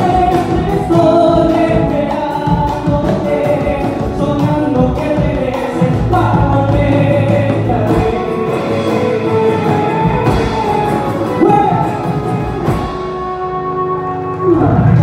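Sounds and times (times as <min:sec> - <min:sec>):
man singing: 0:00.0 - 0:12.5
hand drums: 0:00.0 - 0:13.8
acoustic guitar: 0:00.0 - 0:15.0
drum kit: 0:00.0 - 0:15.0.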